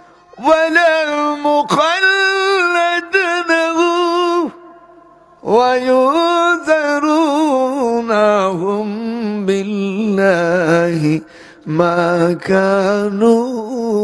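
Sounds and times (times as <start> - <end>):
man chanting into a microphone: 0.1 - 14.0.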